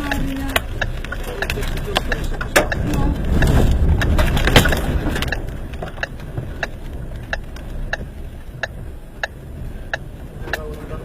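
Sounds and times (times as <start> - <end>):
turn signal relay ticking: 0.0 - 11.0
wind and vehicle rumble: 0.0 - 11.0.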